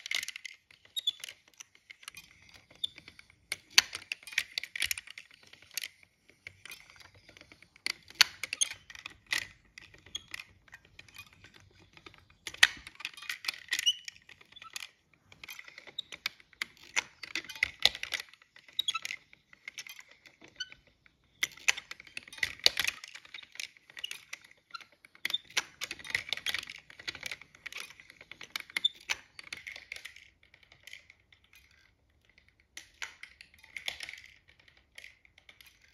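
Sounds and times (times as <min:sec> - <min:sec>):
mechanism clicking and clattering: 0:00.0 - 0:35.9.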